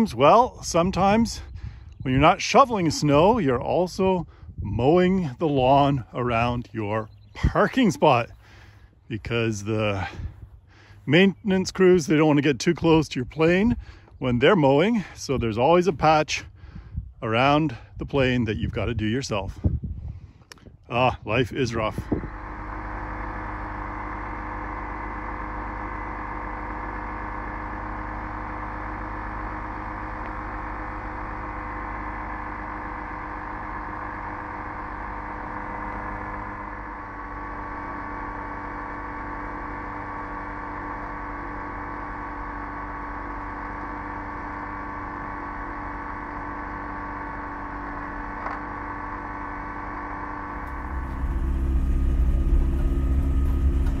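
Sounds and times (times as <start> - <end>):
two-stroke aircraft engine running: 0.0 - 17.0, 17.7 - 54.0.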